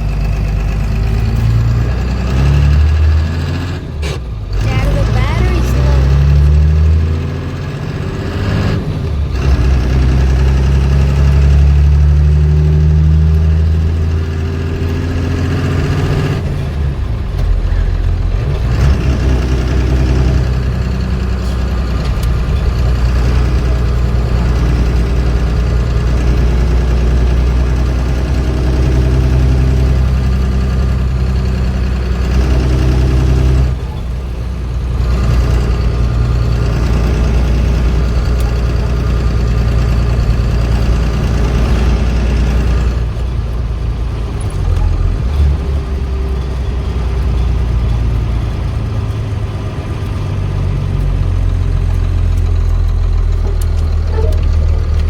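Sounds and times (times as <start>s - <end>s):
diesel truck engine driving: 0.0s - 55.0s.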